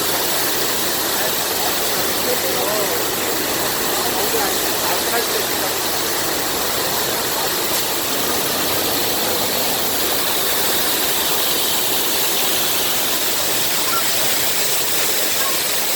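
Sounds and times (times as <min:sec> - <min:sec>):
water rushing down fountain: 0:00.0 - 0:15.9.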